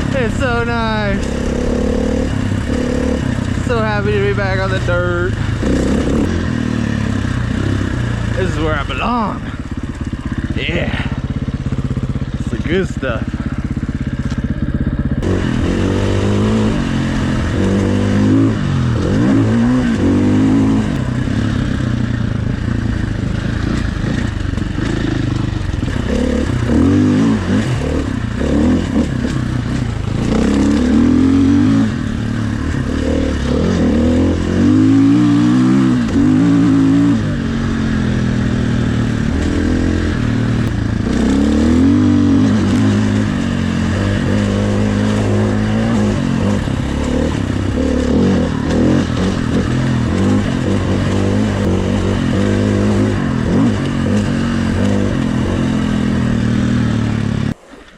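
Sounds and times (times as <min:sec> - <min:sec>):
dirt bike engine revving: 0:00.0 - 0:57.6.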